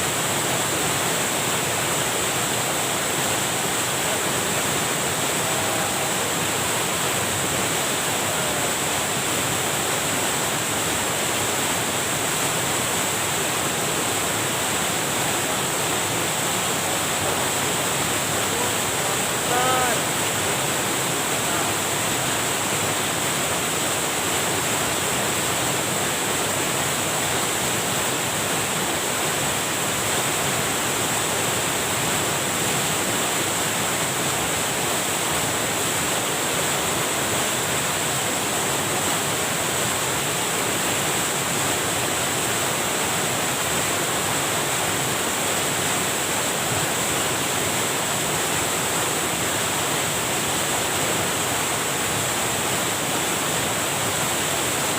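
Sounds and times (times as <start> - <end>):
water rushing over a weir: 0.0 - 54.9.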